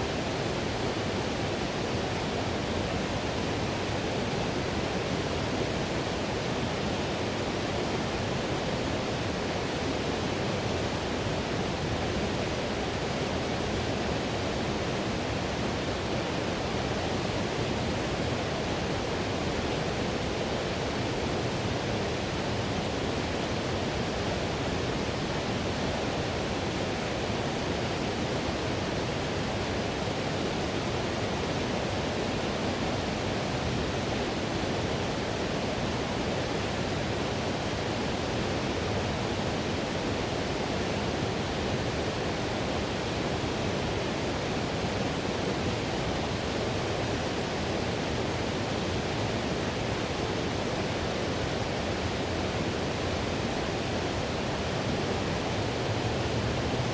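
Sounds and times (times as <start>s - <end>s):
river rushing over rapids: 0.0s - 56.9s.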